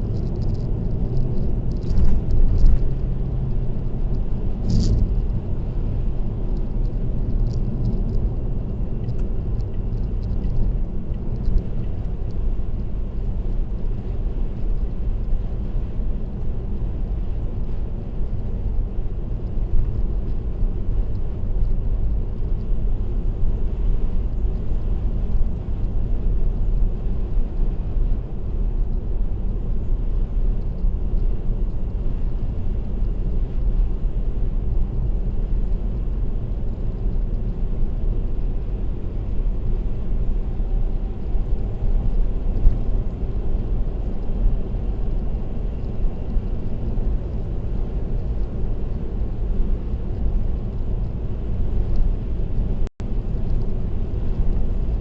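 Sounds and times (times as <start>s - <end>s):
car road and tyre noise: 0.0s - 55.0s.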